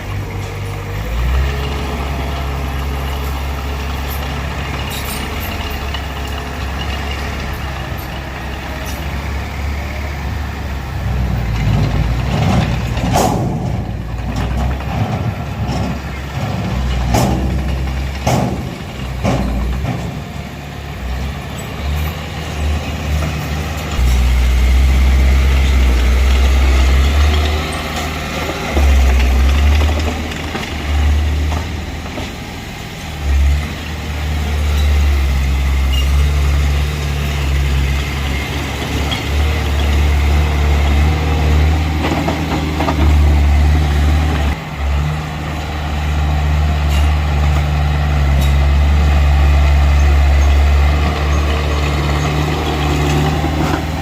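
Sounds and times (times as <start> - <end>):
bulldozer diesel engine drone: 0.0 - 54.0.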